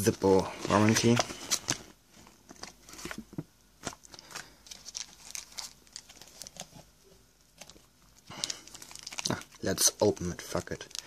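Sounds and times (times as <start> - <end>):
paper and packaging rustling: 0.0 - 6.9, 7.5 - 11.0.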